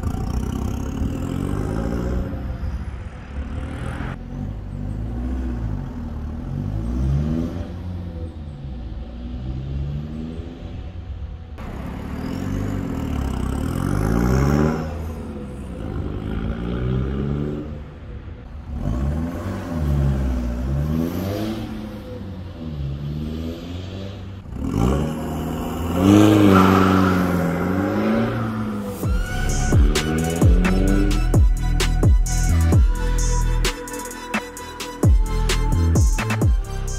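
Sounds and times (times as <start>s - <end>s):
diesel car accelerating: 0.0s - 36.9s.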